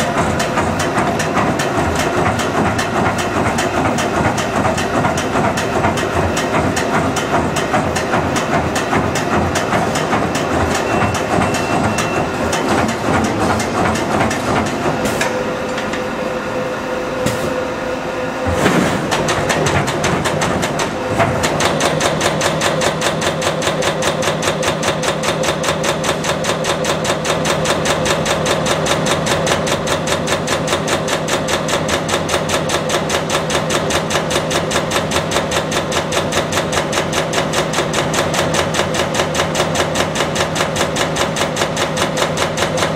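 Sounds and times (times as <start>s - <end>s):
punch press strikes on sheet metal: 0.0s - 15.4s, 18.5s - 42.9s
steady machine hum: 0.0s - 42.9s.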